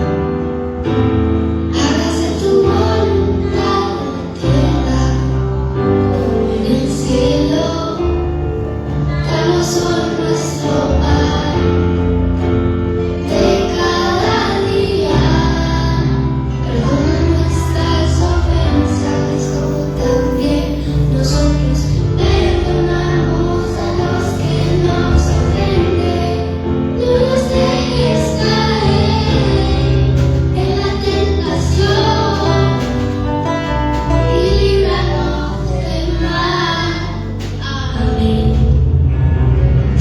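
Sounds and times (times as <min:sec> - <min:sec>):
amplified backing music: 0:00.0 - 0:40.0
children singing: 0:01.7 - 0:38.6.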